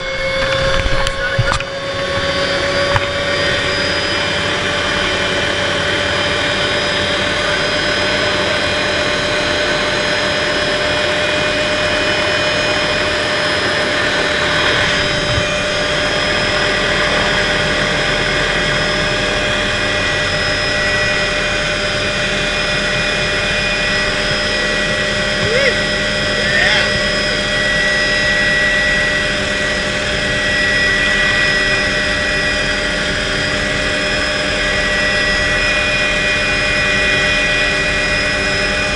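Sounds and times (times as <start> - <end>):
helicopter turbine and rotor: 0.0 - 38.9.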